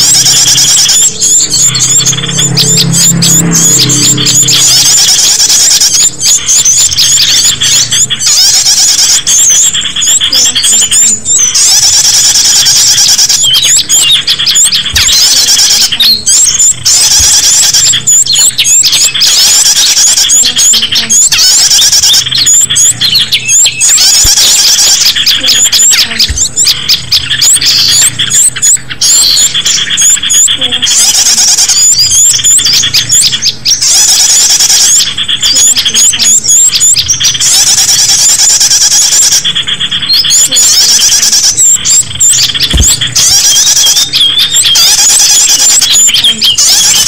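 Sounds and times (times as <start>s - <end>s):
small birds chirping and whistling: 0.0s - 47.0s.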